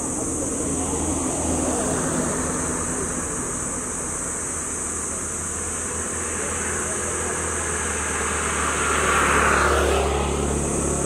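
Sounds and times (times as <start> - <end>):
steady high hiss: 0.0 - 11.0
vehicle passing on road: 0.0 - 11.0.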